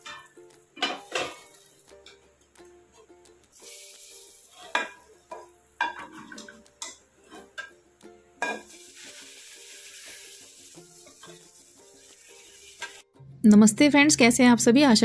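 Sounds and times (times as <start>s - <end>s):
sizzling: 0.0s - 13.2s
plucked-string background music: 0.0s - 15.0s.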